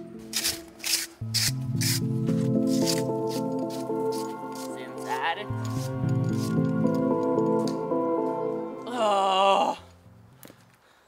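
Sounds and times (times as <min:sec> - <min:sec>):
background music held chords: 0:00.0 - 0:10.6.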